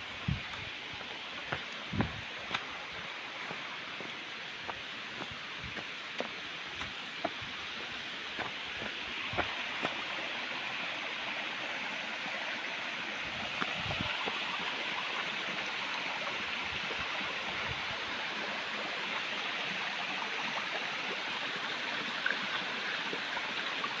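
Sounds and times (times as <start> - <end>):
waterfall rushing and splashing: 0.0 - 24.0.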